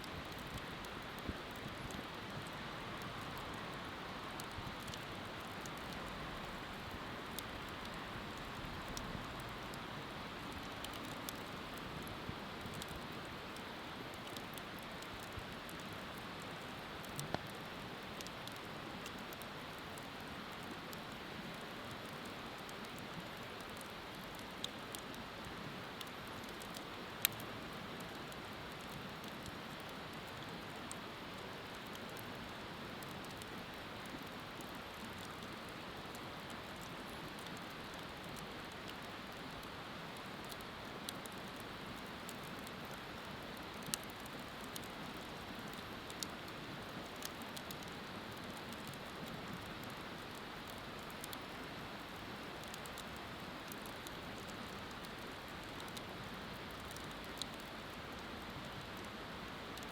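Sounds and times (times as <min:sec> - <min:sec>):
fire crackling pops: 0:00.0 - 0:27.4, 0:33.0 - 0:58.2.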